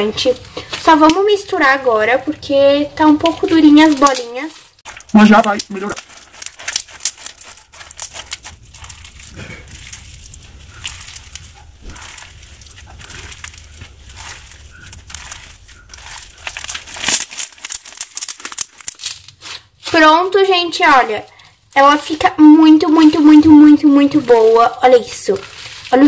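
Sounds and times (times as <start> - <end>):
crunchy slime crackling and popping: 0.0 - 26.0.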